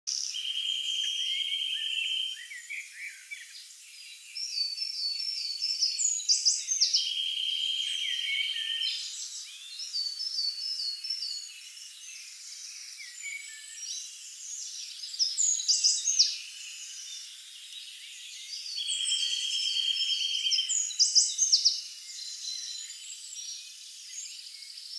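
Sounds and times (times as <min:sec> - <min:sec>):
songbirds singing: 0:00.1 - 0:24.9.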